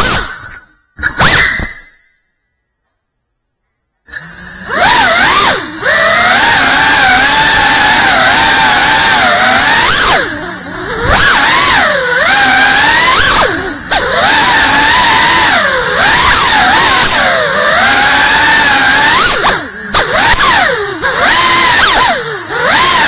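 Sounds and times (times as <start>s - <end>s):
drone motors whining: 4.1s - 23.0s.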